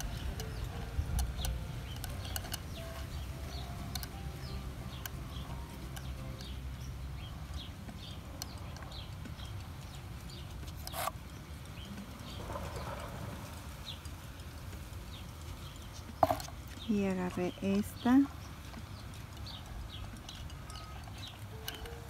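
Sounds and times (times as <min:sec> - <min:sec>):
low background rumble: 0:00.0 - 0:22.0
small birds chirping: 0:00.0 - 0:22.0.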